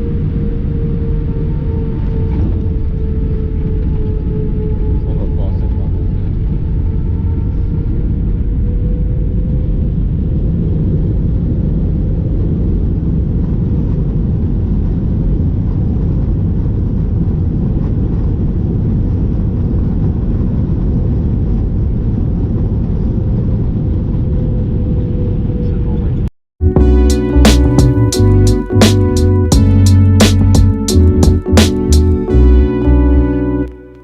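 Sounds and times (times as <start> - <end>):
airplane engines and airflow rumble: 0.0 - 34.0.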